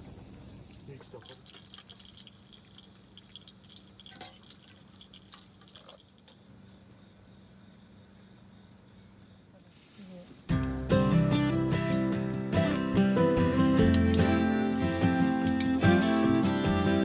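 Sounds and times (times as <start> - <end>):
insect chirping: 0.0 - 13.6.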